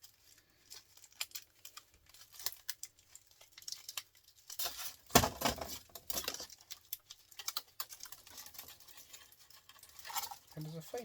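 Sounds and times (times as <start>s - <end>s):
small metal clicks and scrapes: 0.0s - 11.0s.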